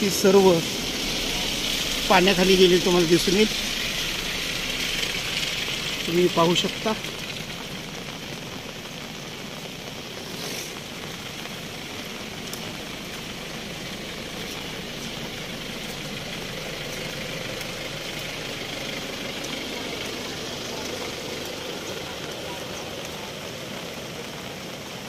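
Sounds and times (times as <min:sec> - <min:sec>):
flooded river rushing: 0:00.0 - 0:25.0.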